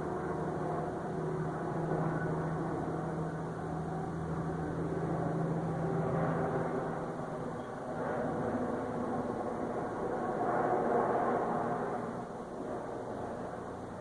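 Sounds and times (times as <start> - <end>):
steady low droning: 0.0 - 14.0.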